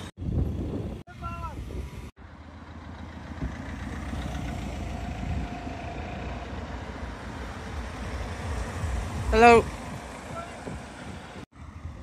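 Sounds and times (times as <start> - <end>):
car engine running low speed: 0.0 - 12.0.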